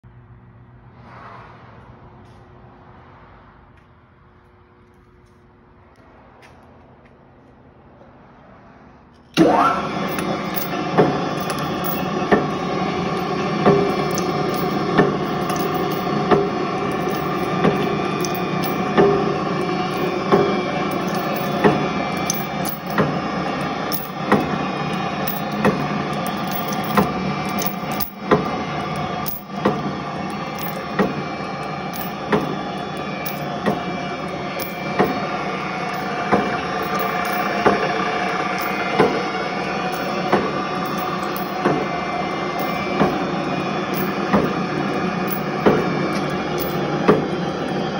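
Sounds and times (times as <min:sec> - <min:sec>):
wire-drawing machine drone: 0:09.2 - 0:47.9.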